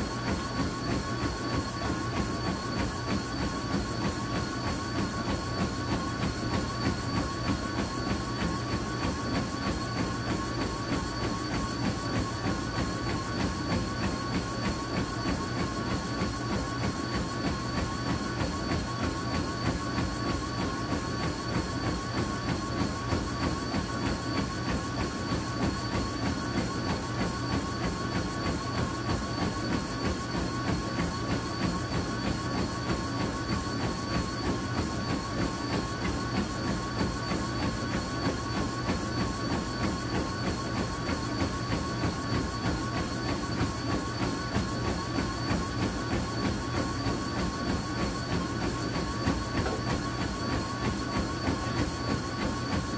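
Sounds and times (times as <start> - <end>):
feet striking treadmill: 0.0 - 52.9
treadmill motor whine: 0.0 - 52.9.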